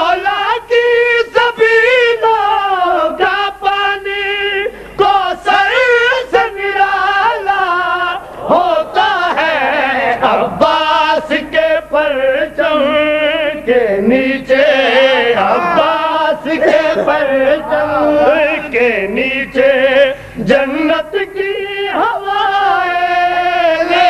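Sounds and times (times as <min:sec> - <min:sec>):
man singing devotional poem: 0:00.0 - 0:24.0.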